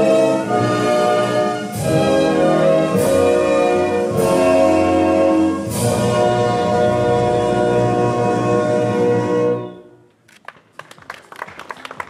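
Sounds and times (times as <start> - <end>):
orchestral music with held chords: 0.0 - 10.0.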